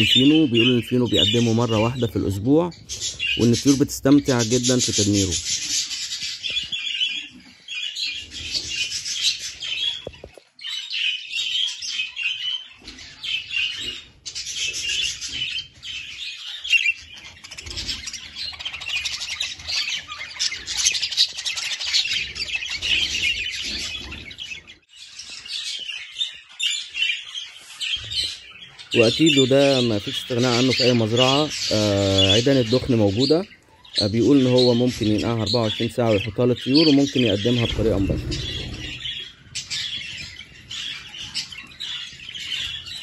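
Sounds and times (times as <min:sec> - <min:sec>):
budgerigars chirping: 0:00.0 - 0:43.0.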